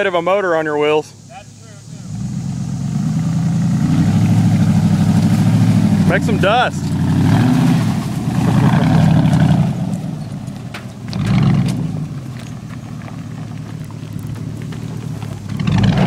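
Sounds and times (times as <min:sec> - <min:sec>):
truck engine revving: 0:00.0 - 0:16.0
wheel spinning in loose dirt: 0:02.1 - 0:16.0.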